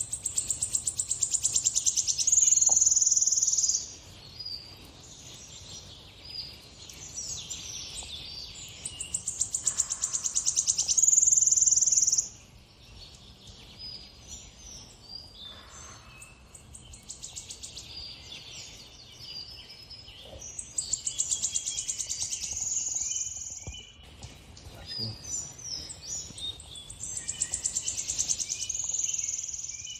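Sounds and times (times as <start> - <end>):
birdsong from tv speaker: 0.0 - 29.9.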